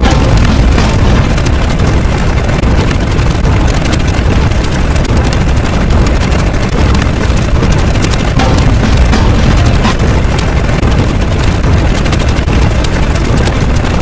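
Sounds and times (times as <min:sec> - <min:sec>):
loud noisy rumble: 0:00.0 - 0:14.0.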